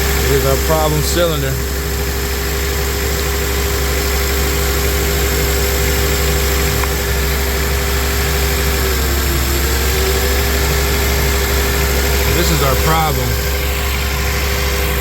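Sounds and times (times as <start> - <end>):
car engine idling rough: 0.0 - 15.0.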